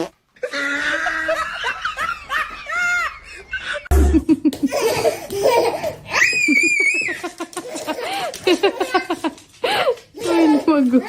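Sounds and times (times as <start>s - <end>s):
people laughing: 0.4s - 11.0s.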